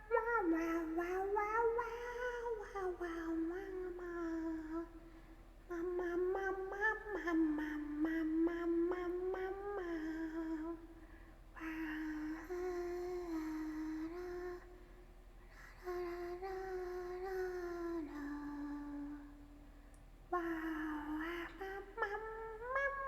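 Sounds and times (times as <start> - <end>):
woman humming: 0.0 - 5.0, 5.7 - 10.9, 11.6 - 14.8, 15.7 - 19.6, 20.3 - 23.0.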